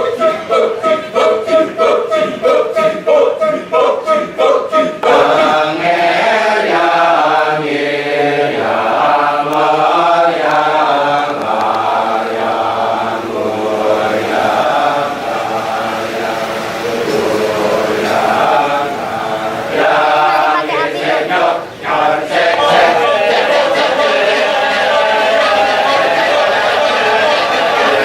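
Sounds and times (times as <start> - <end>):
chorus chanting staccato syllables: 0.0 - 28.0
sustained layered singing voices: 0.0 - 28.0.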